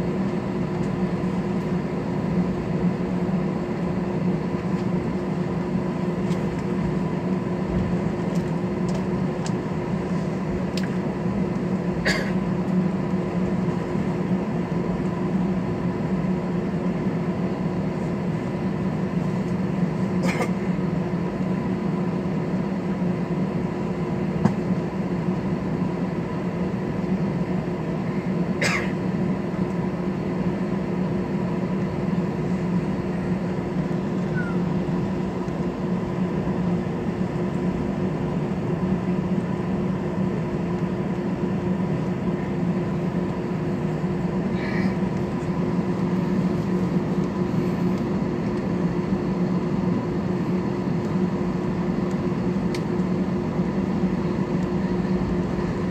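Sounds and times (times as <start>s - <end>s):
airliner cabin engine drone: 0.0s - 55.9s.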